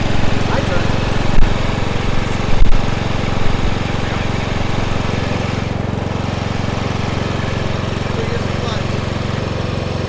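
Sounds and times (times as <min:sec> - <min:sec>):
riding lawn mower engine: 0:00.0 - 0:10.0.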